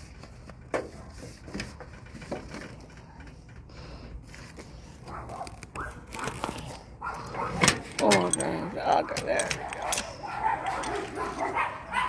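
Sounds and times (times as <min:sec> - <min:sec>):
handling clicks and rustles: 0:00.0 - 0:12.0.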